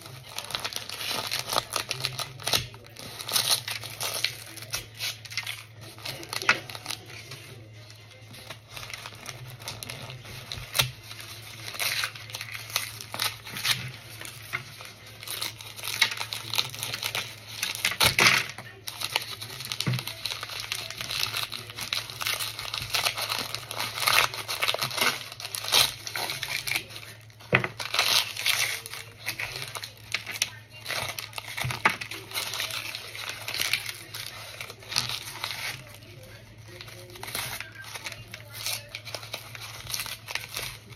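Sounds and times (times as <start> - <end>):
baked cornstarch crunching: 0.0 - 40.9.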